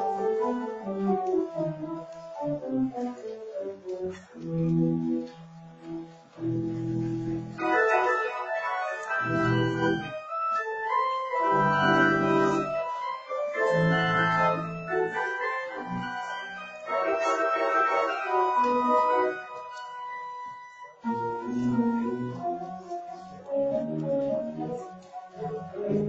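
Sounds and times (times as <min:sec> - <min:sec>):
pipe organ playing chords: 0:00.0 - 0:26.0.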